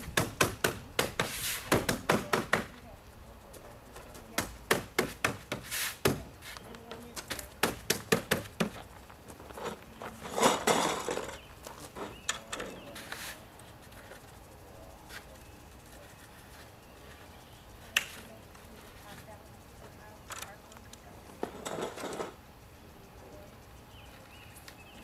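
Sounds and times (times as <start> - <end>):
rustle: 0.0 - 7.7, 8.4 - 25.0.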